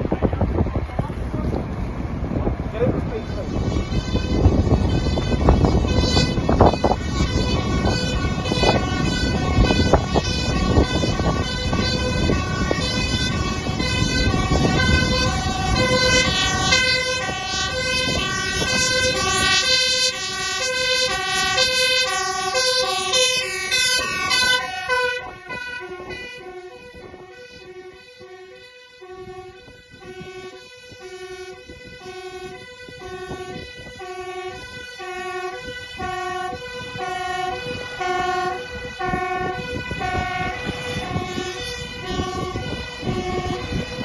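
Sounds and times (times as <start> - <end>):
truck engine and road rumble: 0.0 - 44.0
two-tone hi-lo siren: 2.7 - 44.0.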